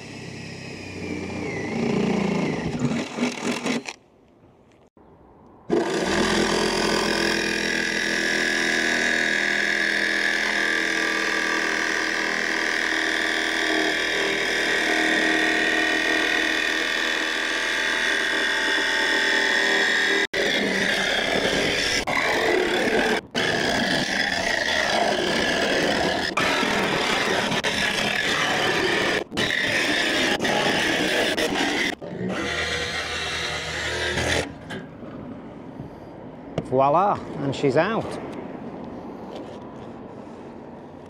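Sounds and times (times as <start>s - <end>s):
jigsaw cutting sheet metal: 0.0s - 4.0s, 5.7s - 34.8s.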